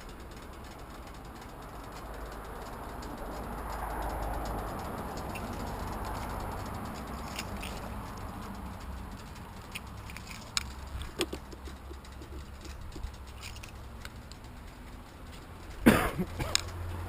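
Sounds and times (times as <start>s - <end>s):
road and vehicle noise: 0.0s - 17.0s.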